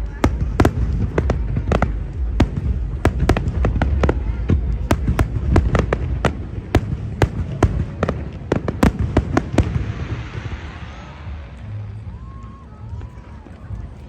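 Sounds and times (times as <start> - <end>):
fireworks bursting: 0.0 - 12.5
low rumble: 0.0 - 14.0.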